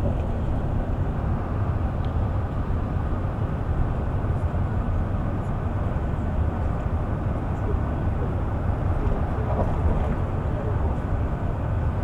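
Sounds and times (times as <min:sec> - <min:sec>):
bus rumble from inside cabin: 0:00.0 - 0:12.0.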